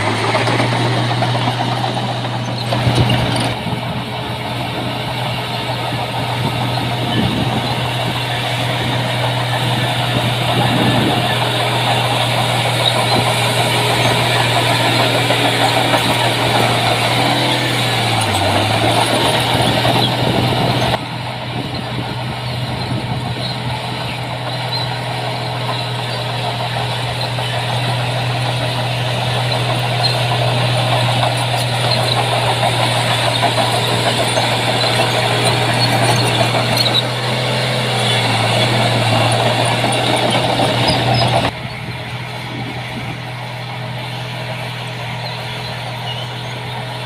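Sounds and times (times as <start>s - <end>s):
heavy diesel engine under load: 0.0s - 47.0s.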